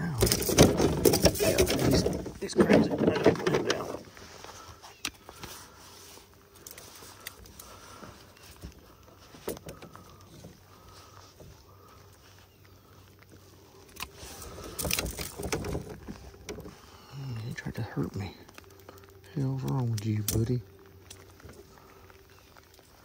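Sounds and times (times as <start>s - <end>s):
rain pattering on water: 1.2s - 23.0s.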